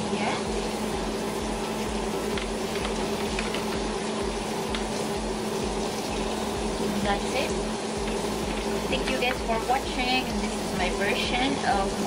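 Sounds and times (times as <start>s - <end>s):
low hum with hiss: 0.0s - 12.0s.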